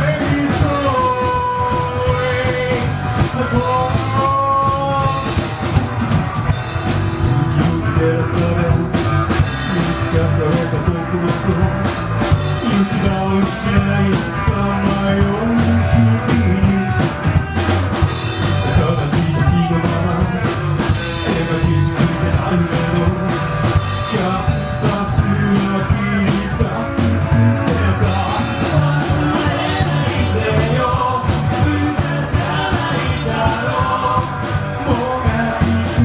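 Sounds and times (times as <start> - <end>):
person singing: 0.0 - 5.6, 7.2 - 36.0
rockabilly band playing live: 0.0 - 36.0.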